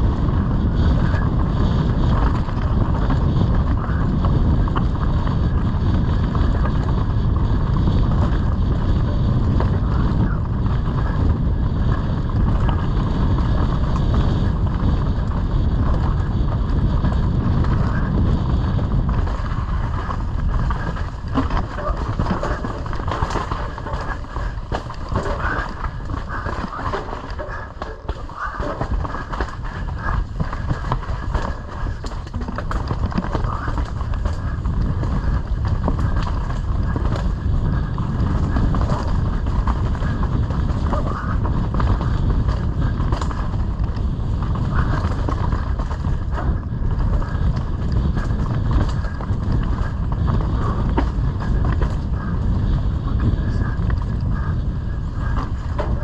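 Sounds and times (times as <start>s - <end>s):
bike rattling over bumps: 0.0s - 56.0s
bike tyres rolling over dirt: 0.0s - 56.0s
wind on microphone: 0.0s - 56.0s.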